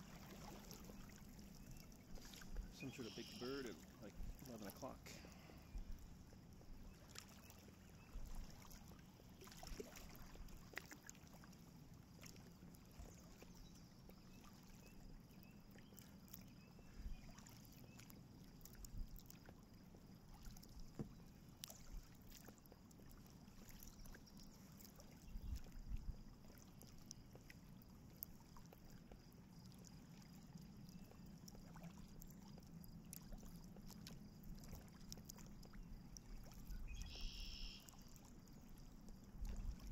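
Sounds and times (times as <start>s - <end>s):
kayak paddle splashing: 0.0s - 39.9s
water dripping off paddle blades: 0.0s - 39.9s.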